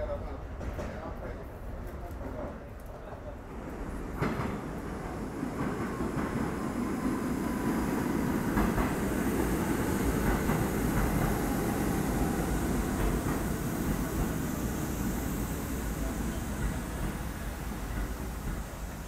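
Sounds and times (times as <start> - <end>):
train rumbling past: 0.1 - 19.0.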